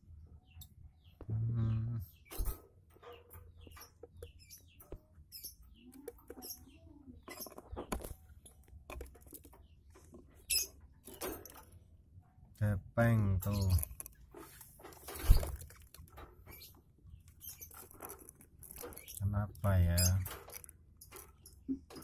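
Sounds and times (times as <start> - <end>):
parrot chicks squeaking and chirping: 2.0 - 11.8, 13.0 - 22.0.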